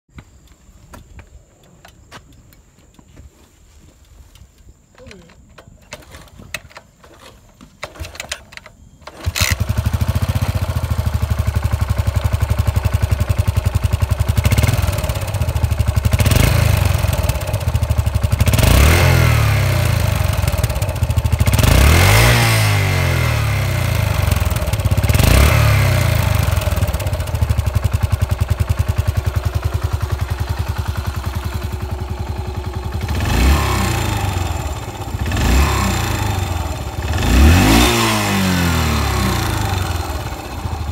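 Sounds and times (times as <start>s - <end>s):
motorcycle engine idling and revving: 4.2s - 40.9s.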